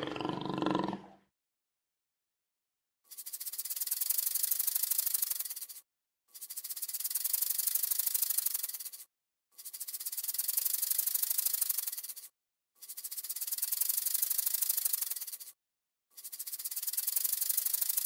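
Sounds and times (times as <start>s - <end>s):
rattlesnake tail rattle buzzing: 3.1s - 18.0s.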